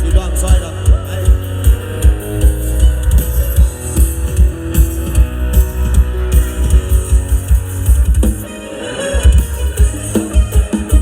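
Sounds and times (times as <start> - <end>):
bass and drum beat: 0.0 - 11.0
guitar: 0.0 - 11.0
live band music: 0.0 - 11.0.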